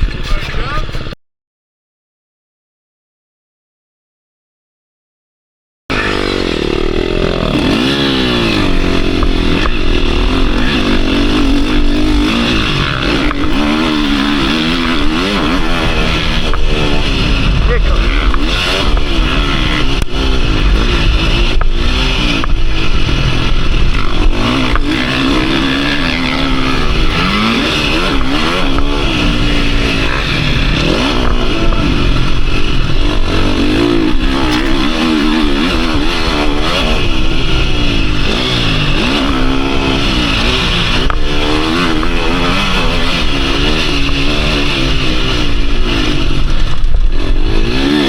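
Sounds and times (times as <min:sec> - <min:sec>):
motorcycle engine revving: 0:05.9 - 0:48.0.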